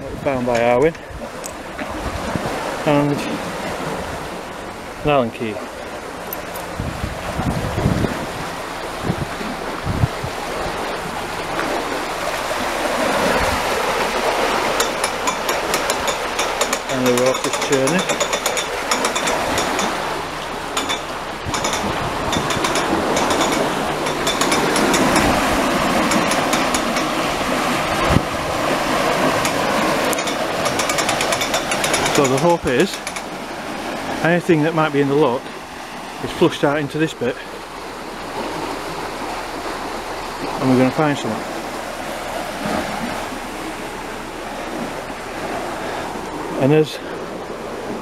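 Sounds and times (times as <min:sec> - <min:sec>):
water rushing through lock gate: 0:00.0 - 0:48.0.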